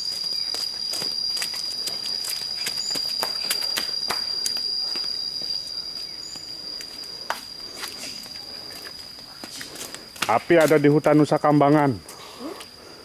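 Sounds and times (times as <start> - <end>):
footsteps on gravelly dirt: 0.0 - 10.9
insects droning: 0.0 - 13.0.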